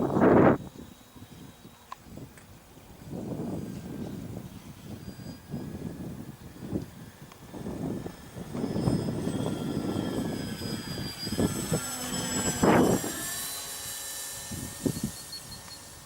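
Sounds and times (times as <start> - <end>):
model plane motor whining: 0.0 - 16.0
wind rumbling on microphone: 0.0 - 16.0.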